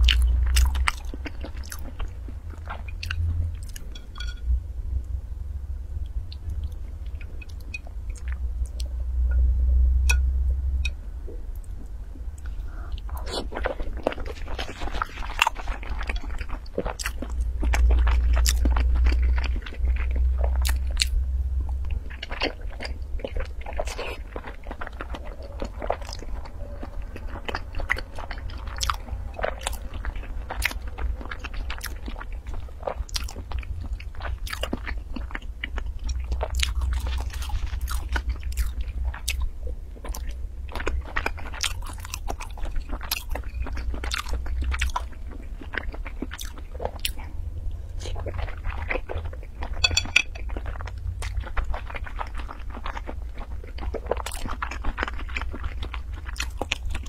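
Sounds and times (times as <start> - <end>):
chewing and biting food: 0.0 - 4.4, 12.4 - 57.0.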